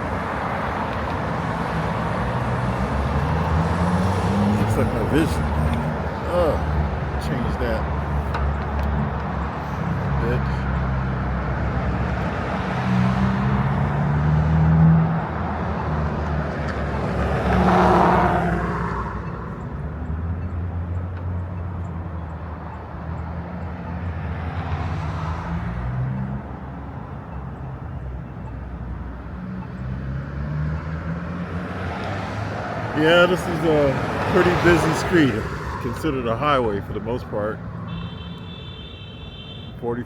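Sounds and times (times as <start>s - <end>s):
cars passing close: 0.0s - 40.0s
traffic rumble: 0.0s - 40.0s.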